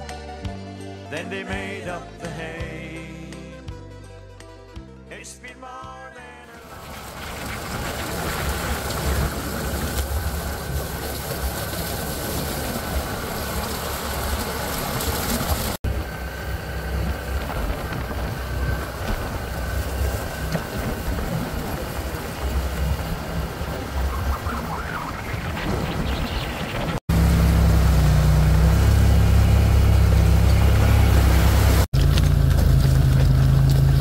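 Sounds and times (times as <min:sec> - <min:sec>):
atv engine running: 0:06.5 - 0:34.0
trail noise: 0:06.5 - 0:34.0
wind: 0:06.5 - 0:34.0.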